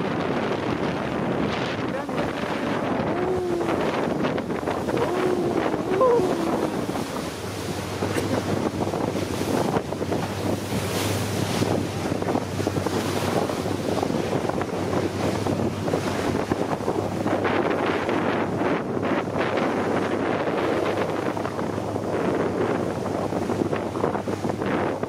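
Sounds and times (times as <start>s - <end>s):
low boat engine hum: 0.0s - 25.0s
rushing water: 0.0s - 25.0s
wind buffeting microphone: 0.0s - 25.0s.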